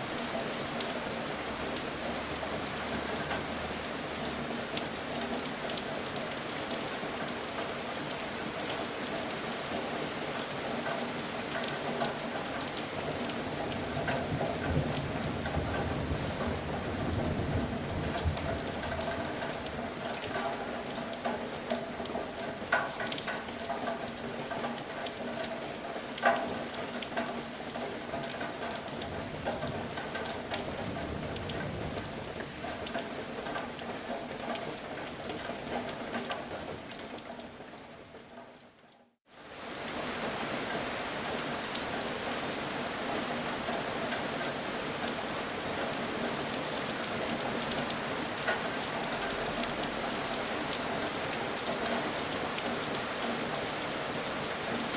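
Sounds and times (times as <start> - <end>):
raindrops striking a surface: 0.0 - 54.9
steady rain: 0.0 - 54.9.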